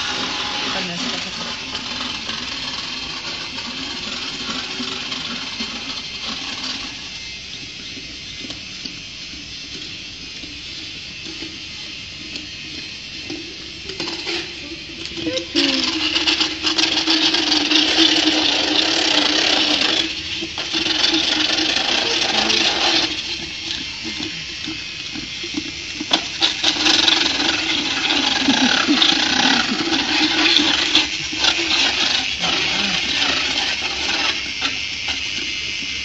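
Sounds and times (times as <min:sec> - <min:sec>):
power dental burr grinding: 0:00.0 - 0:36.0.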